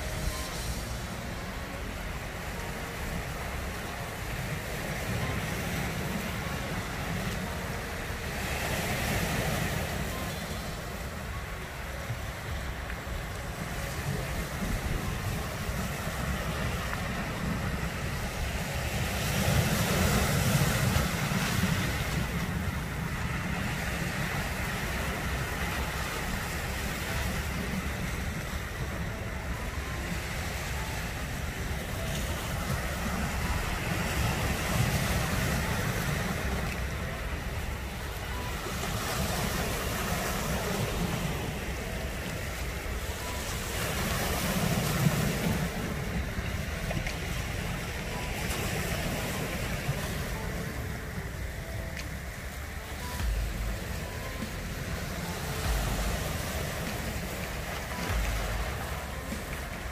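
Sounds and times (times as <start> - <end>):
waves breaking on cobble shore: 0.0 - 59.9
wind rumble on microphone: 0.0 - 59.9.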